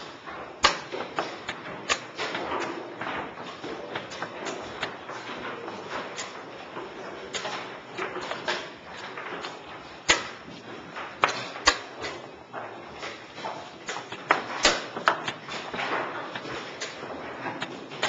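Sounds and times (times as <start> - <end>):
low room murmur: 0.0 - 18.0
sharp knocks and clacks: 0.0 - 18.0.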